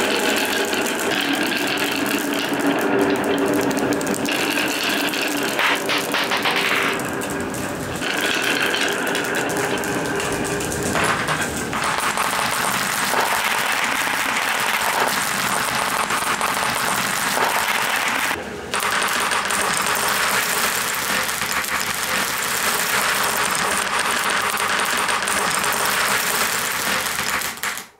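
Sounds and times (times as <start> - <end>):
marbles clattering on wood: 0.0 - 27.9.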